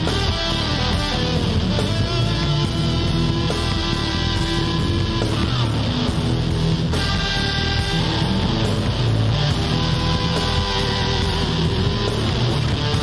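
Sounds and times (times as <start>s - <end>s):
blues-rock music with guitar: 0.0s - 13.0s.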